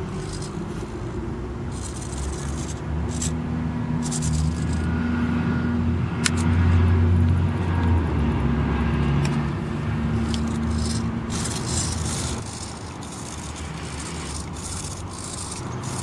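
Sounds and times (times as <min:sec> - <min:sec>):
quadcopter motors humming: 0:00.0 - 0:16.0.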